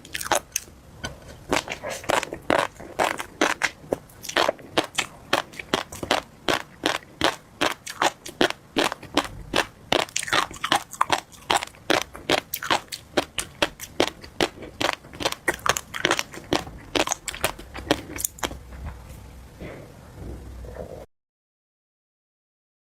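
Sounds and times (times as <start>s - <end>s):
chewing crunchy fish roe: 0.0s - 19.8s.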